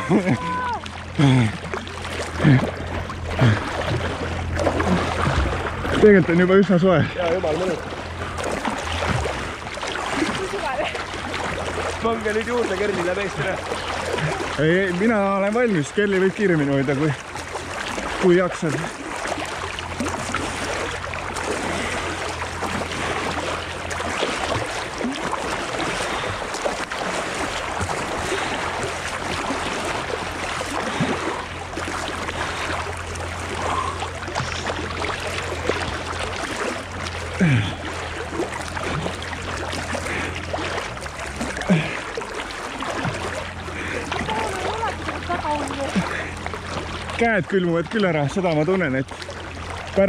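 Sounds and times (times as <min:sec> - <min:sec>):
low steady hum: 0:00.0 - 0:50.0
water splashing from swimming strokes: 0:00.0 - 0:50.0.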